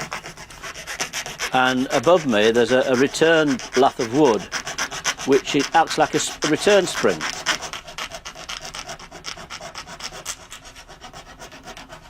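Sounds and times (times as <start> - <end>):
foot pumping treadle: 0.0 - 10.6
fret saw rasping through wood: 0.0 - 12.0.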